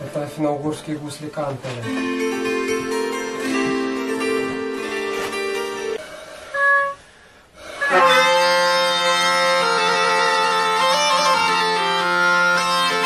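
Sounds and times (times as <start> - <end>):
bagpipe playing: 1.9 - 13.0.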